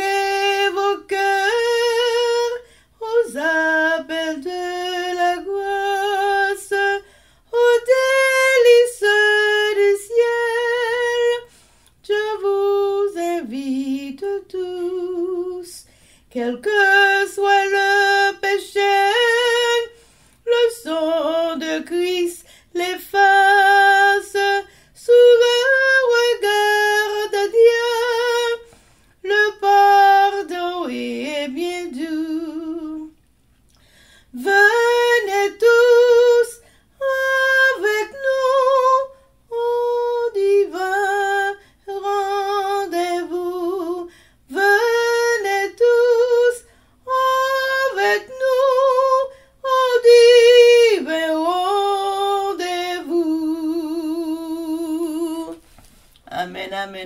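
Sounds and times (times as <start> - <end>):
woman singing a hymn solo: 0.0 - 33.2, 34.3 - 57.0.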